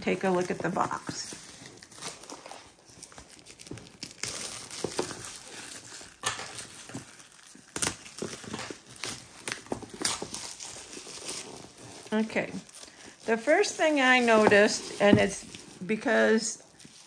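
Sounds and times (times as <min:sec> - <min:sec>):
cellophane wrap crinkling and tearing: 0:00.0 - 0:17.0.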